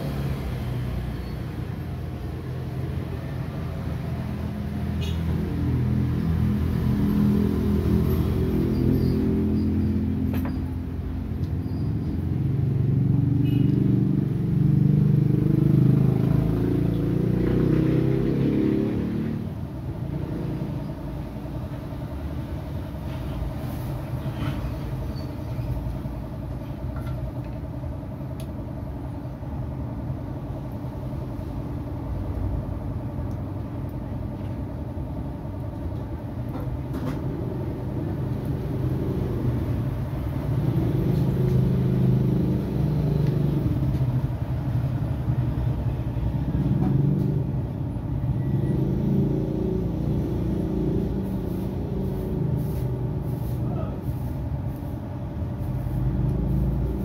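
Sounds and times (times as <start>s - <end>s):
vehicle engines rumbling: 0.0s - 57.0s.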